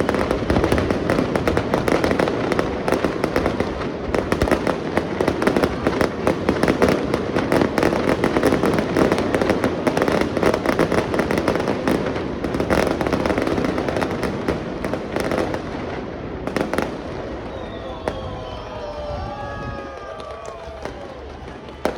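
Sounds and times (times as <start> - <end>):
fireworks crackling bangs: 0.0 - 21.9.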